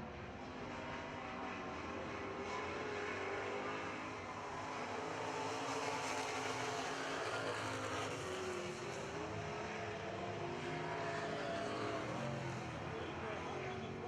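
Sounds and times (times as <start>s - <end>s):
race truck engines: 0.0s - 14.0s.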